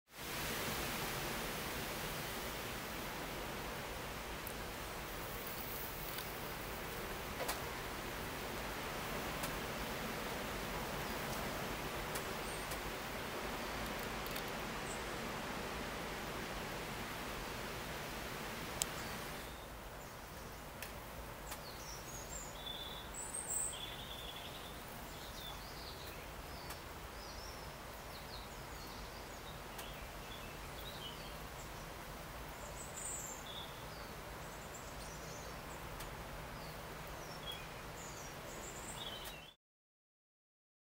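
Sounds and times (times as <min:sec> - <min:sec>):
steady low hiss: 0:00.1 - 0:39.5.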